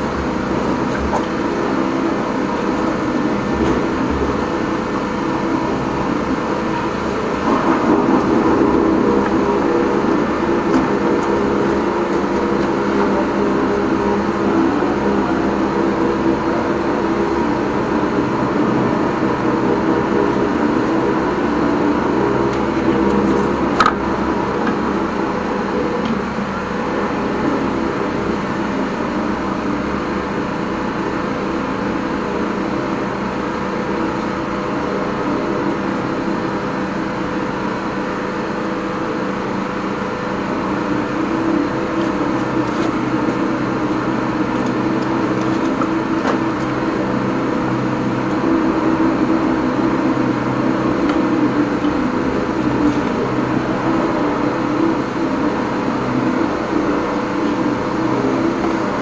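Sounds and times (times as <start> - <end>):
drain jetter running: 0.0 - 59.0.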